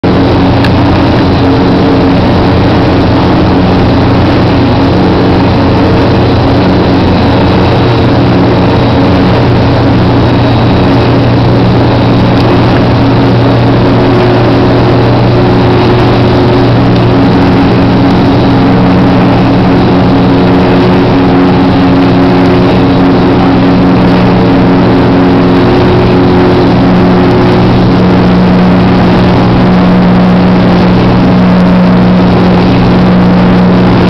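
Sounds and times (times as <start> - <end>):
faint high whine: 0.0 - 34.0
machinery humming: 0.0 - 34.0.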